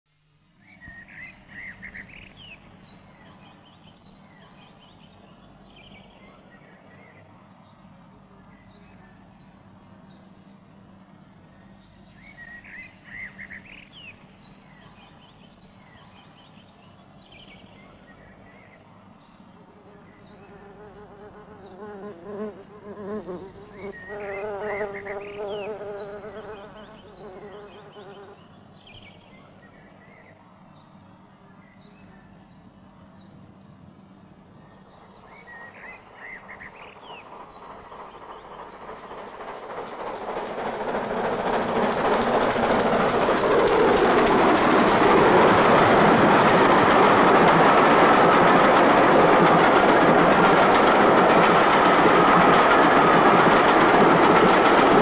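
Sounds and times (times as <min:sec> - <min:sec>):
birds chirping: 0:00.6 - 0:22.2, 0:23.3 - 0:55.0.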